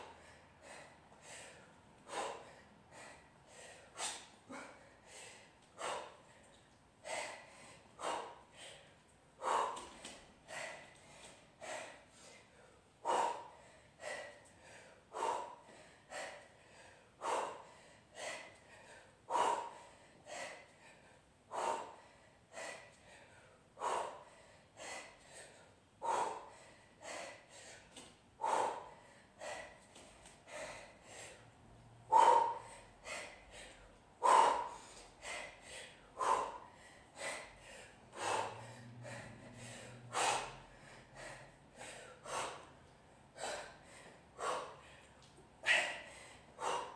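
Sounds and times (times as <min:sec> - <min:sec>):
woman breathing forcefully: 0:00.0 - 0:46.9.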